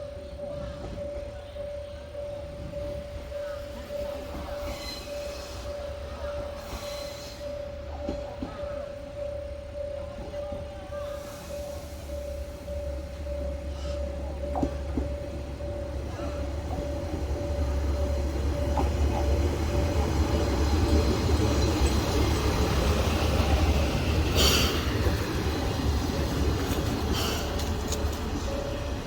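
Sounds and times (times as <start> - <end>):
diesel railcar engine drone: 0.0 - 29.0.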